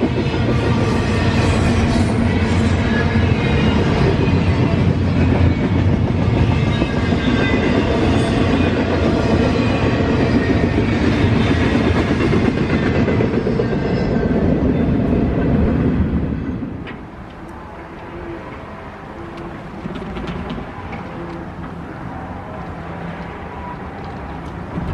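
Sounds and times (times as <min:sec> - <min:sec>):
freight train wheels rumbling: 0:00.0 - 0:24.9.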